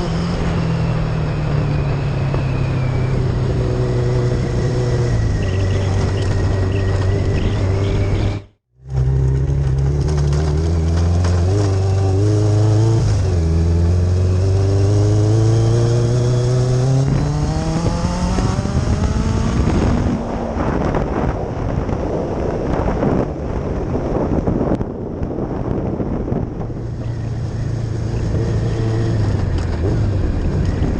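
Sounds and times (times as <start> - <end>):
wind noise on microphone: 0.0 - 8.6, 10.1 - 30.9
motorcycle engine accelerating: 0.0 - 30.9.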